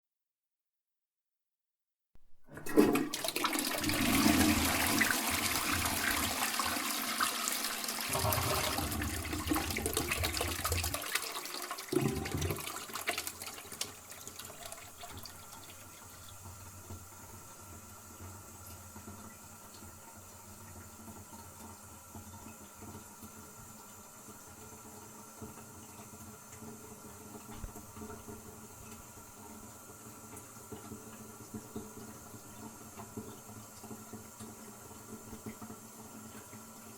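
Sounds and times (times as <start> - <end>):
toilet flushing: 2.4 - 36.9.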